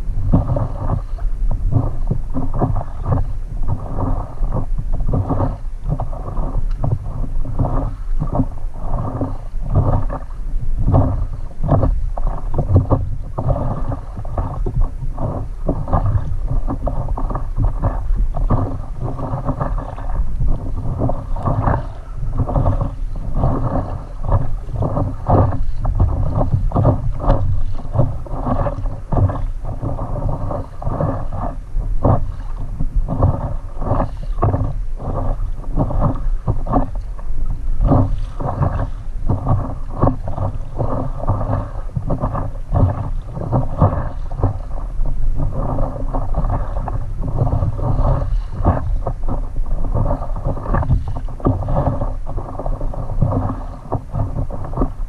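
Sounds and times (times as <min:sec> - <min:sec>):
water lapping against paddleboard: 0:00.0 - 0:55.0
wind buffeting microphone: 0:00.0 - 0:55.0.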